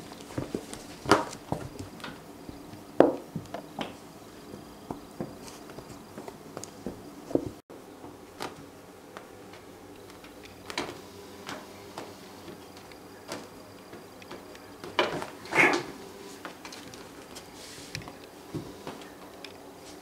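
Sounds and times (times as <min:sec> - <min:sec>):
cats bumping and scratching: 0:00.0 - 0:19.4.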